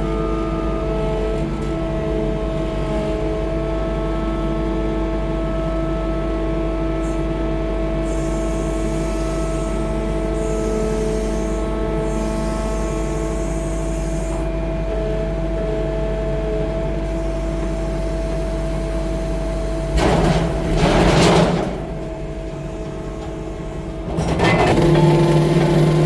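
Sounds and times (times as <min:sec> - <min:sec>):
skid steer diesel engine running: 0:00.0 - 0:26.0.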